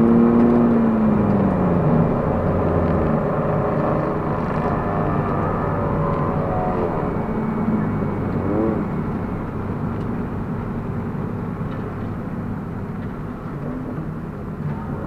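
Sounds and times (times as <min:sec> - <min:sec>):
rising and falling whine: 0:00.0 - 0:12.3
car engine running: 0:00.0 - 0:15.0
road and wind noise: 0:00.0 - 0:15.0.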